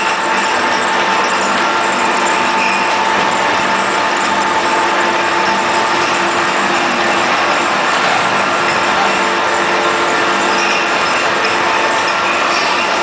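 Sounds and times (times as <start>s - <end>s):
bottle washing machine droning: 0.0s - 13.0s.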